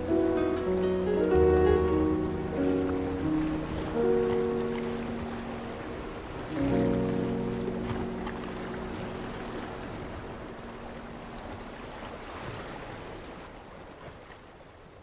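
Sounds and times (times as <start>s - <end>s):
waves and rushing water: 0.0s - 15.0s.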